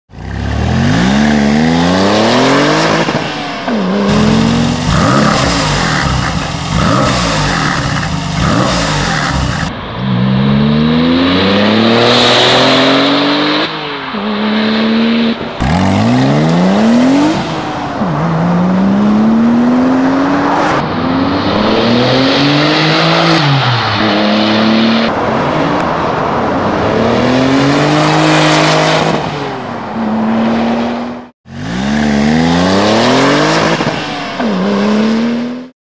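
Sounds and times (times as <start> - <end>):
car engine revving: 0.2 - 25.9, 26.8 - 35.7.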